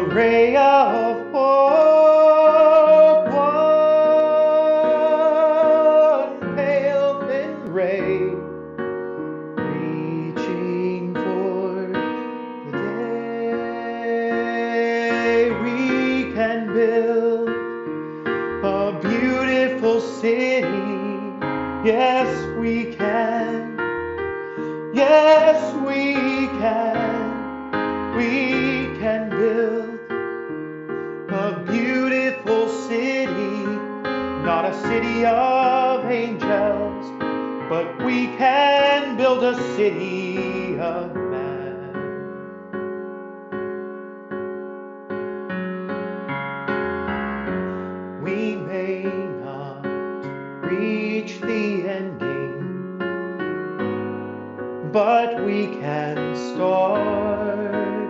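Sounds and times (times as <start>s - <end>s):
man singing slow song: 0.0s - 8.5s, 9.7s - 23.8s, 24.5s - 27.5s, 28.1s - 30.2s, 31.2s - 42.3s, 48.2s - 52.9s, 54.8s - 58.0s
piano accompaniment: 0.0s - 58.0s.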